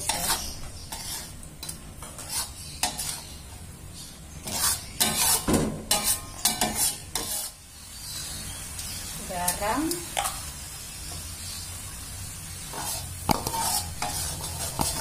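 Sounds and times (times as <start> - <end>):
metal spatula scraping wok: 0.0 - 10.5, 11.1 - 15.0
food sizzling in oil: 0.0 - 15.0.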